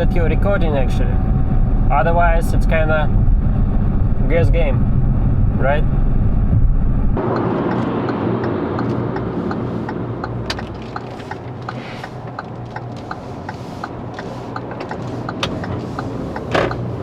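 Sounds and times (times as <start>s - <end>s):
car road and engine noise: 0.0s - 17.0s
turn signal ticking: 0.0s - 17.0s.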